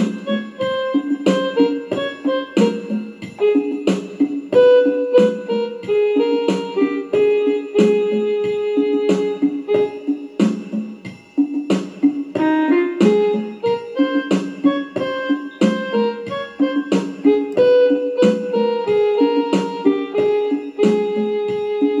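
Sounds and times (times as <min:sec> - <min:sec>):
electronic keyboard melody with beat: 0:00.0 - 0:22.0.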